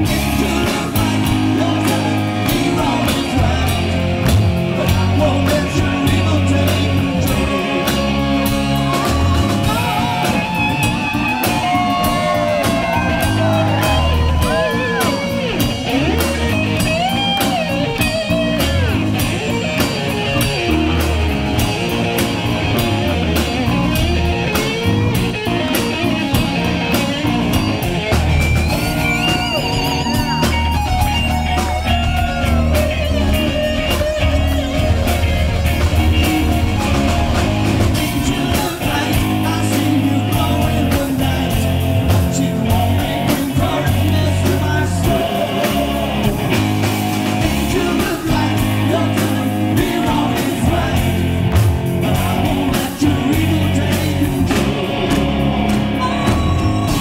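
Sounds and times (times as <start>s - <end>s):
lead electric guitar bending notes: 0.0s - 57.0s
live rock band playing: 0.0s - 57.0s.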